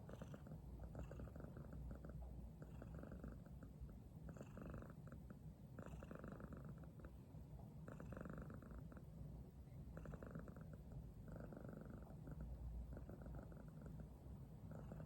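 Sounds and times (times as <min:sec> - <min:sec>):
cat purring: 0:00.0 - 0:07.2, 0:07.8 - 0:09.1, 0:09.8 - 0:15.0.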